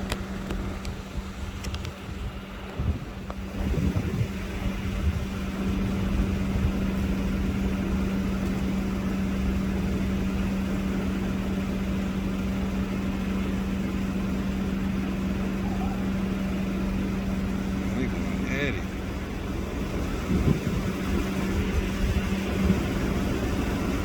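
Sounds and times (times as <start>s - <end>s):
low rumble: 0.0s - 11.1s, 15.4s - 24.0s
steady hum: 0.0s - 24.0s.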